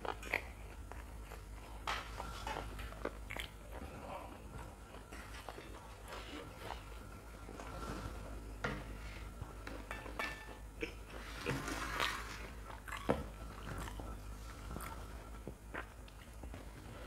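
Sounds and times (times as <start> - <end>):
chewing crunchy fried food: 0.0 - 7.9, 10.7 - 17.0.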